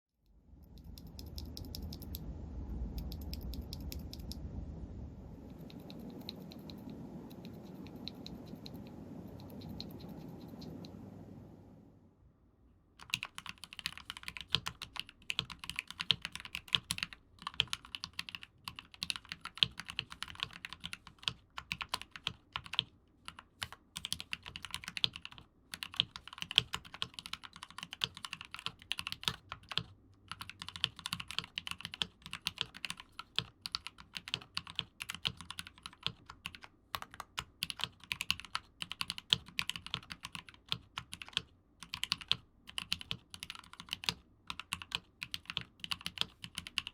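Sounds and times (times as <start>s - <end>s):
typing on mechanical keyboard: 0.6s - 4.5s, 5.5s - 11.0s, 13.0s - 46.9s.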